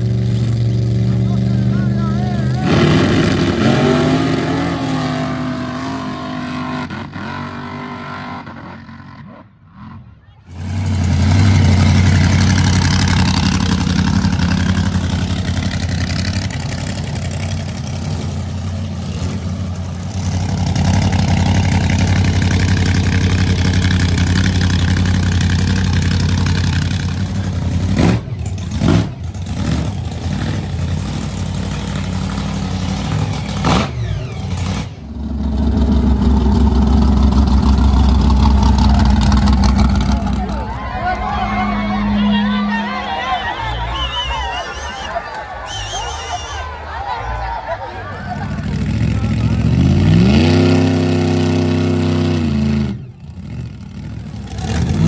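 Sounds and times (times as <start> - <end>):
loud engine running steadily: 0.0 - 7.4, 10.4 - 55.0
engine revving: 0.0 - 45.8, 46.9 - 55.0.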